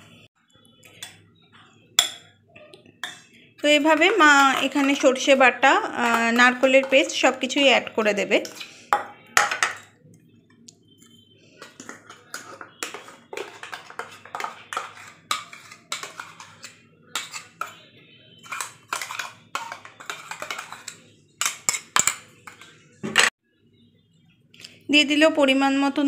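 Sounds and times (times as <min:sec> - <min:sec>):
metal spoon scraping a bowl: 0:00.8 - 0:10.0, 0:11.0 - 0:23.3.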